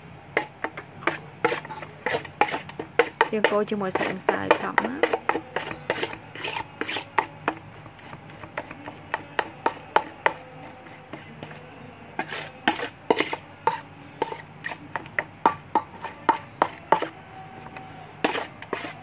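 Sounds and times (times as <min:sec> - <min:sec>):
gloved hand scraping cream in metal basin: 0:00.4 - 0:19.0.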